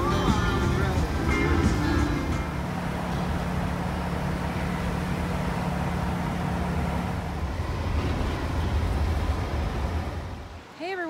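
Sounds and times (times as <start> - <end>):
engine and road drone: 0.0 - 10.8
low hum: 0.0 - 10.8.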